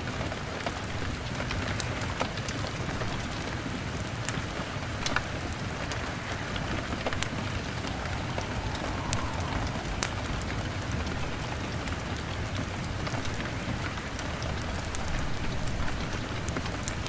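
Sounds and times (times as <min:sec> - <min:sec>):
fire crackling and popping: 0:00.0 - 0:17.0
rain on a window: 0:00.0 - 0:17.0.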